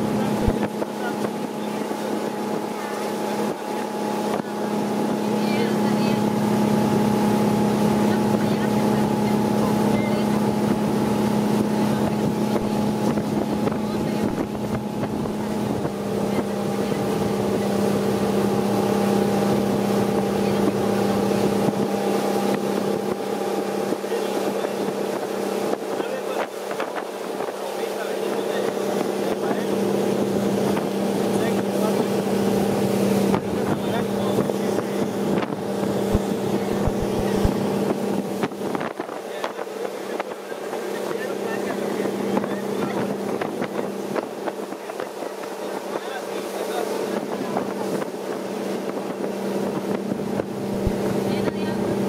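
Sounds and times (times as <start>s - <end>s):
outboard motor running: 0.0s - 52.0s
wake spray rushing: 0.0s - 52.0s
wind: 0.0s - 52.0s.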